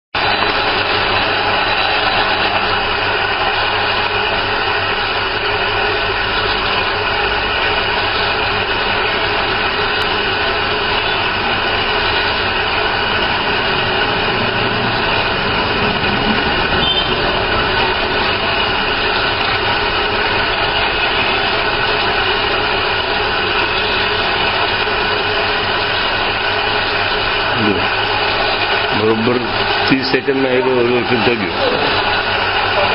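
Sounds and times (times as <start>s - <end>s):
geared drive mechanical hum: 0.2s - 32.9s.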